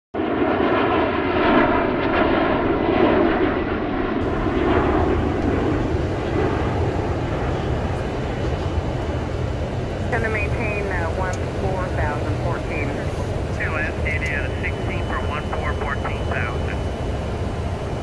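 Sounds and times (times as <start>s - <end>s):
airliner in flight rushing: 0.2s - 18.0s.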